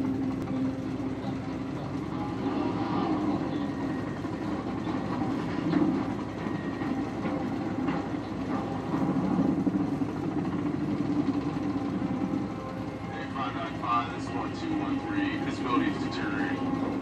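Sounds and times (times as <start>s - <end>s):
helicopter rotors droning: 0.0s - 17.0s.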